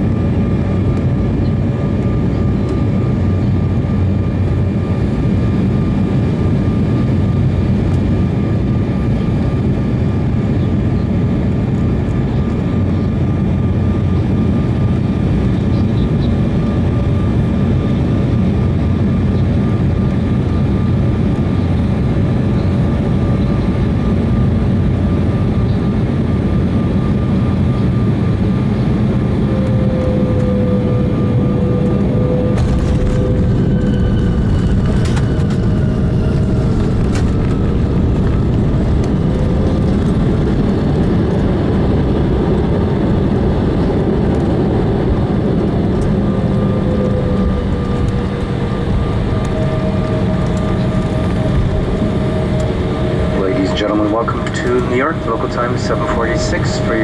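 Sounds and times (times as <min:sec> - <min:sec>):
jet engine roar in cabin: 0:00.0 - 0:57.0.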